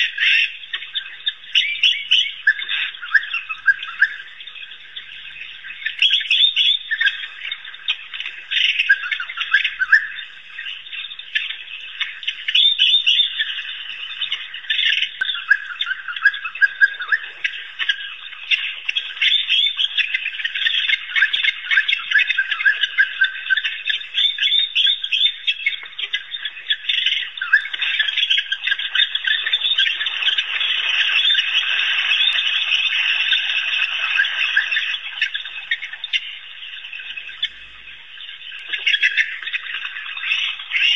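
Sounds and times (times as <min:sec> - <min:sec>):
wild dogs twittering: 0:00.0 - 0:40.9.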